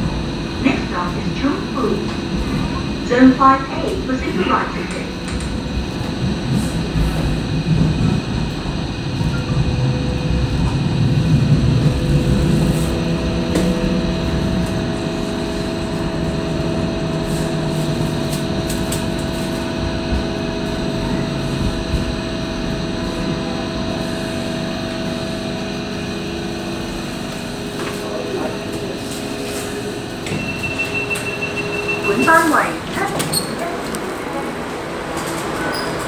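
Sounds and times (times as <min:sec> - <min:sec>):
steady tonal hum: 0:00.0 - 0:35.1
train rumble: 0:00.0 - 0:36.0.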